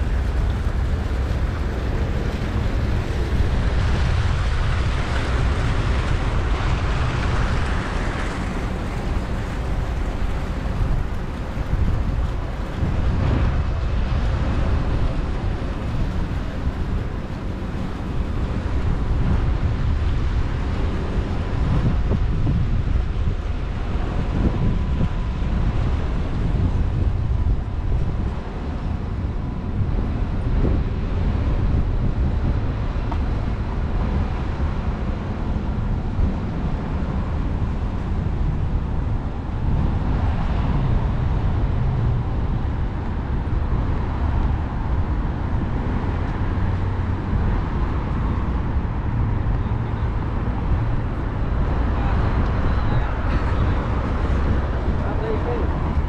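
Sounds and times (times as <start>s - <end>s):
passing road traffic: 0.0s - 56.0s
wind rumbling on microphone: 0.0s - 56.0s.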